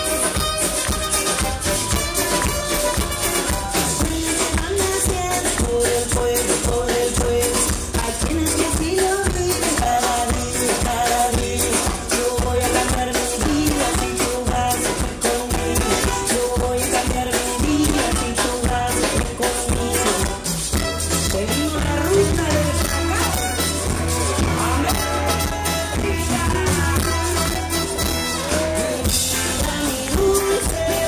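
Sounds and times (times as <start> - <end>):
live latin band playing: 0.0 - 31.0.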